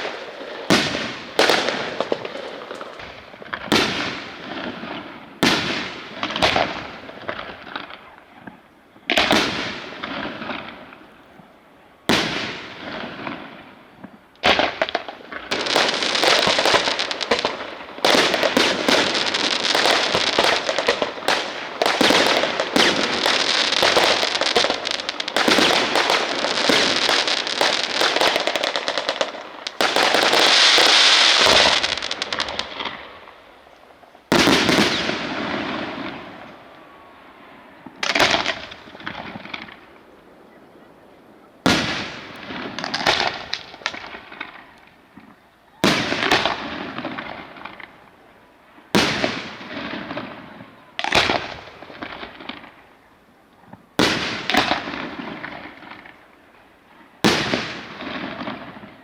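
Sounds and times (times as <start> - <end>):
fireworks bangs: 0.0 - 52.9, 53.8 - 56.3, 57.2 - 59.0
fireworks crackling: 0.0 - 59.0.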